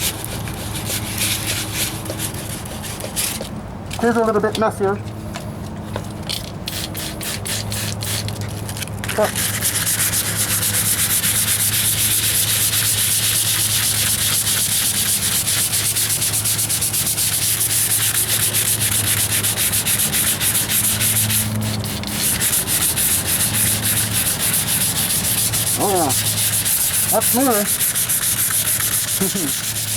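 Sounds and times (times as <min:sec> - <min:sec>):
sandpaper rubbing strokes: 0:00.0 - 0:03.5, 0:06.7 - 0:29.9.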